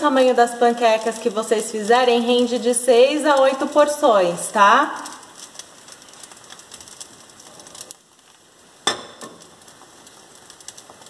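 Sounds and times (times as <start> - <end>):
batter crackling in a pan: 0.0 - 11.0.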